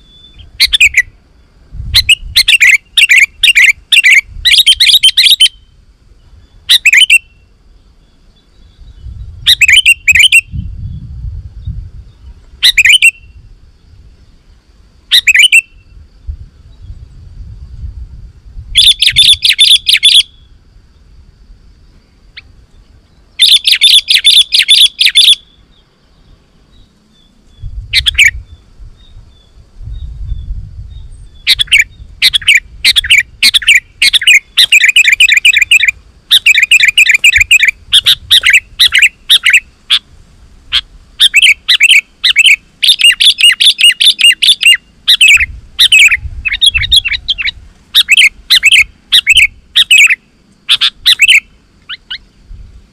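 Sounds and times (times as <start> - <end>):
bulbul singing: 0.0 - 13.9, 15.1 - 16.0, 18.8 - 20.6, 22.0 - 40.0, 40.7 - 52.4.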